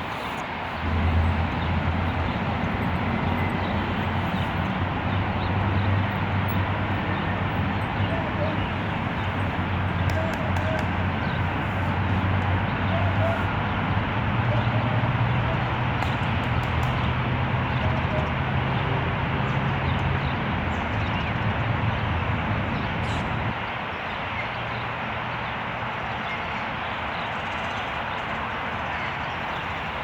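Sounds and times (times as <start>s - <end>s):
city background noise: 0.0s - 30.0s.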